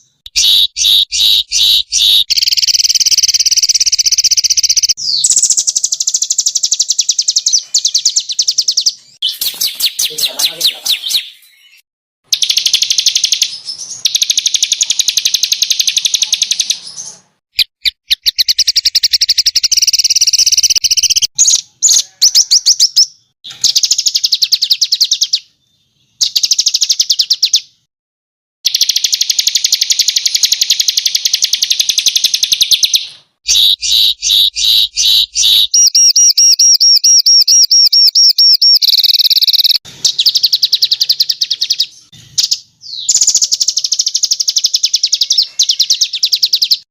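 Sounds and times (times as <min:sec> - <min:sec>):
songbirds trilling: 0:00.0 - 0:17.4, 0:18.1 - 0:27.5, 0:28.7 - 0:46.9.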